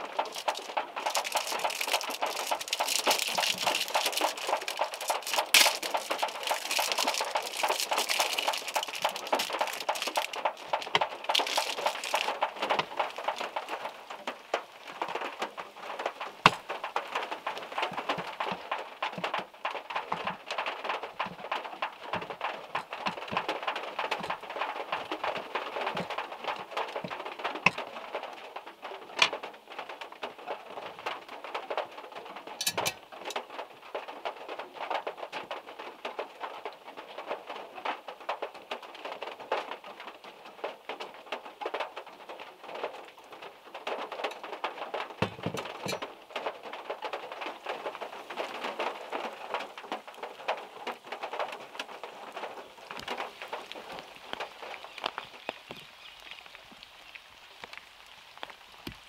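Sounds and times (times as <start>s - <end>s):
rain pattering on car roof: 0.0s - 59.0s.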